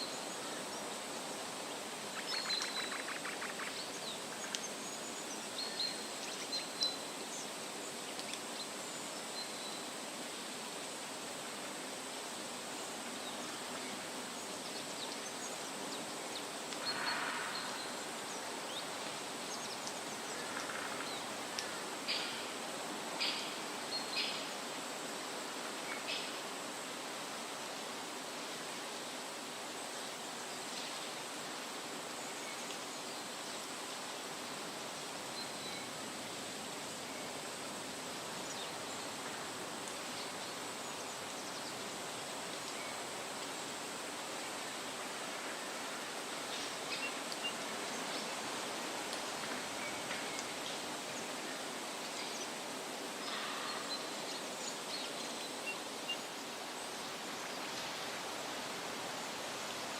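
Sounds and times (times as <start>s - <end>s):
wind rustling through trees: 0.0s - 59.9s.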